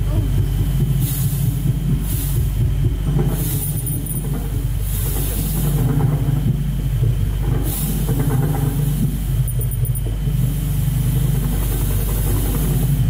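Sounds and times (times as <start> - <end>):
low electronic drone: 0.0 - 13.0.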